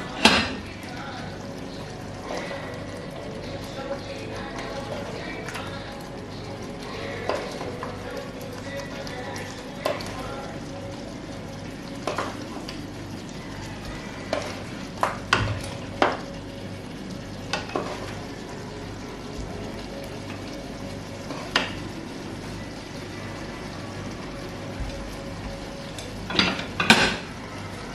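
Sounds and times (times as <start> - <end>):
food sizzling in a pot: 0.0 - 27.9.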